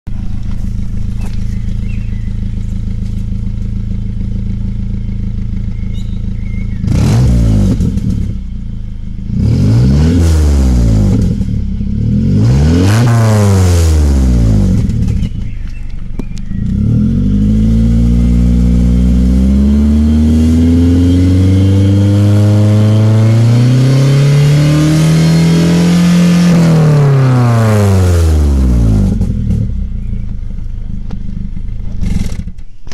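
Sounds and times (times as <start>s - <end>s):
car engine idling: 0.0s - 32.9s
car engine revving: 0.1s - 32.8s.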